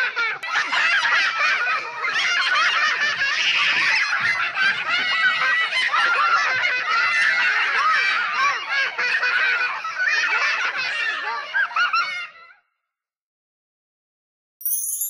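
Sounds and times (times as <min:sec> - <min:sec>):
tiny high-pitched voices laughing: 0:00.0 - 0:12.7.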